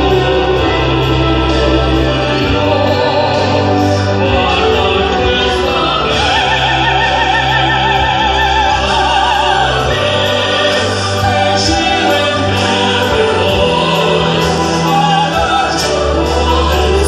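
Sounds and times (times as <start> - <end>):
recorded orchestral accompaniment: 0.0 - 17.0.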